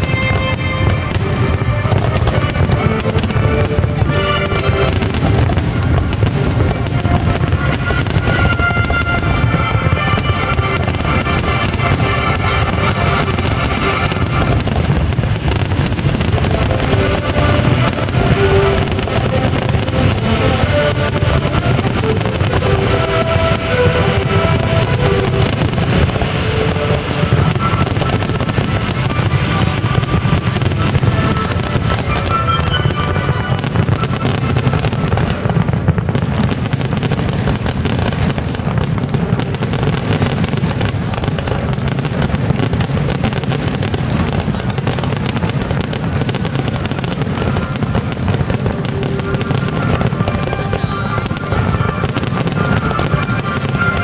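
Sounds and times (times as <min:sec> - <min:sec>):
music playing: 0:00.0 - 0:41.0, 0:45.3 - 0:54.0
fireworks bangs: 0:00.0 - 0:54.0.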